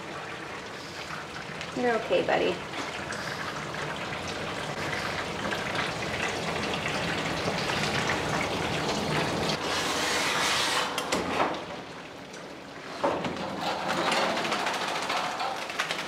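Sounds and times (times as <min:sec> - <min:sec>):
water running and splashing in tub: 0:00.0 - 0:16.0.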